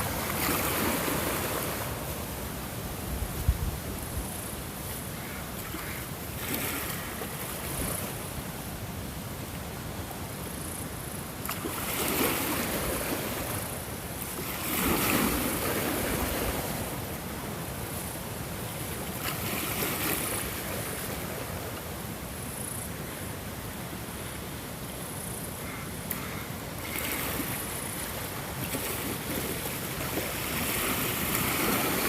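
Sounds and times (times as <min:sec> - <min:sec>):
ocean waves on shore: 0:00.0 - 0:32.0.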